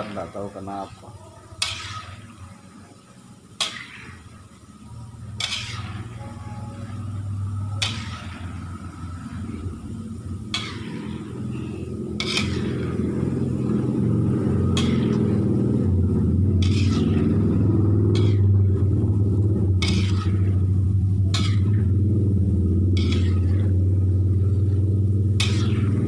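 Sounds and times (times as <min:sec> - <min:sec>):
faint oil sizzle: 0:00.0 - 0:26.0
low rumble: 0:04.7 - 0:26.0.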